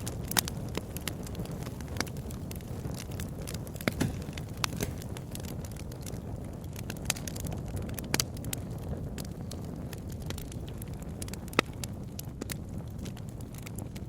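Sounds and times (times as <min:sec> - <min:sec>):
fire crackling and popping: 0:00.0 - 0:14.0
flames rushing: 0:00.0 - 0:14.0.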